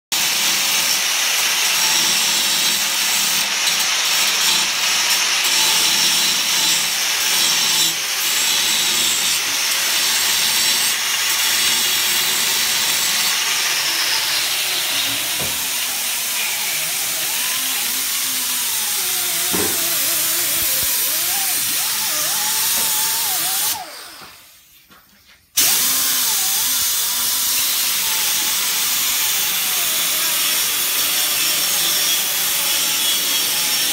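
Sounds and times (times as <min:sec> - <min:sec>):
angle grinder grinding steel: 0:00.2 - 0:24.4, 0:25.6 - 0:33.9.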